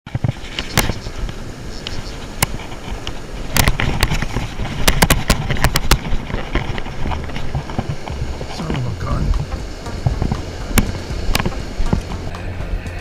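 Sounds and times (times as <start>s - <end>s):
surf rushing: 0.1s - 13.0s
wind on microphone: 0.1s - 13.0s.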